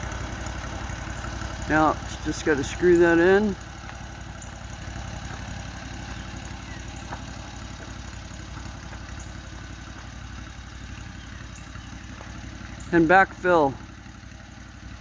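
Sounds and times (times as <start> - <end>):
construction machine engine idling: 0.0 - 15.0.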